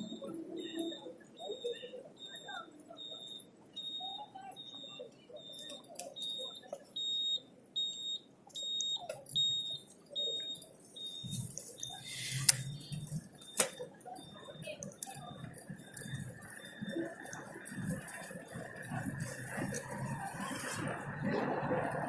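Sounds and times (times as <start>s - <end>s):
high-pitched electronic beeps: 0.0s - 22.0s.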